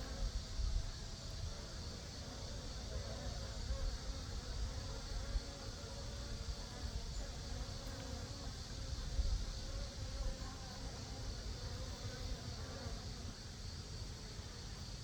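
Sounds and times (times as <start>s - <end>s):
honeybees buzzing: 1.4s - 14.9s.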